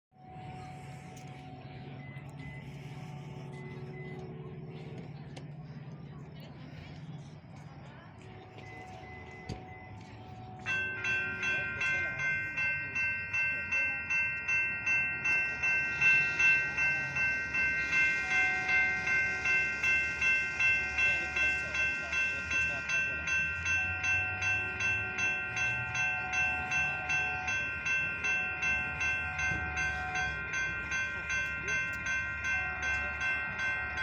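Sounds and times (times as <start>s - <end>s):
crossing bell ringing: 0.1s - 34.0s.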